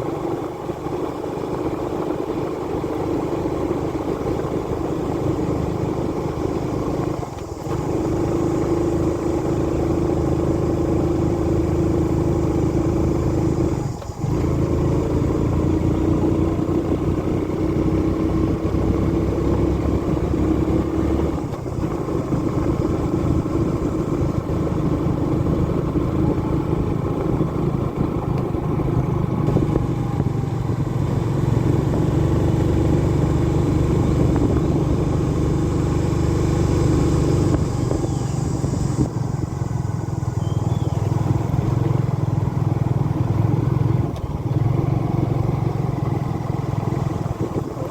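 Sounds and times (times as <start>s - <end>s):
motorbike engine droning: 0.0s - 47.9s.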